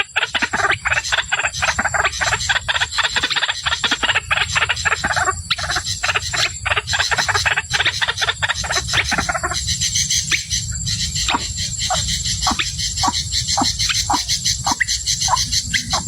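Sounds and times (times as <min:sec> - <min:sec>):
bird harsh croaking calls: 0:00.0 - 0:16.0.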